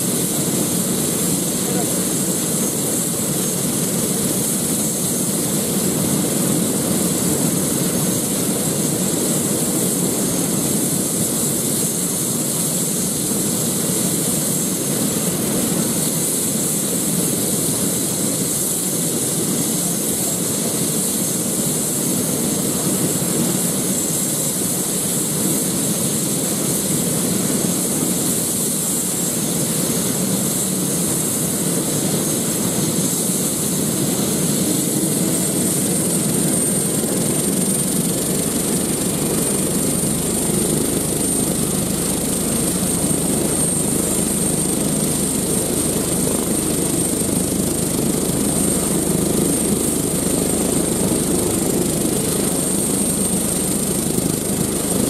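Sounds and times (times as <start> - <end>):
helicopter rotor rushing: 0.0 - 55.0
helicopter turbine whine: 0.0 - 55.0.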